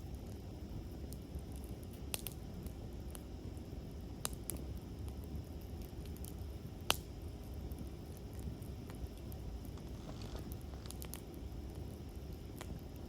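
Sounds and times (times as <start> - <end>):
campfire pops and snaps: 0.0 - 13.0
campfire rushing: 0.0 - 13.0.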